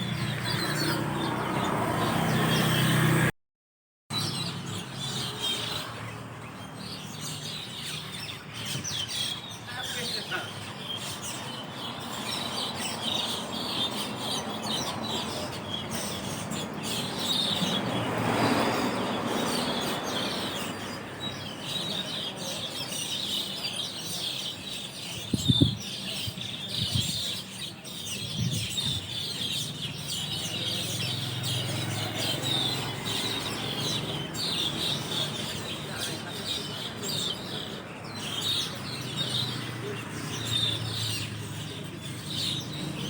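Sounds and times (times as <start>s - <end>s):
starling flock chattering: 4.2s - 43.0s.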